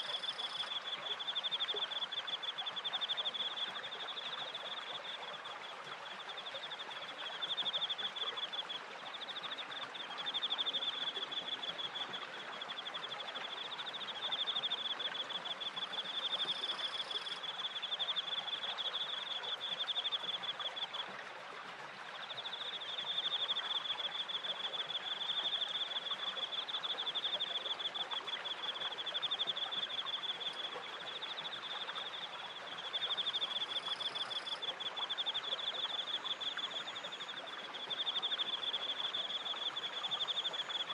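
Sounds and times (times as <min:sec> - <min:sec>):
small stream: 0:00.0 - 0:40.9.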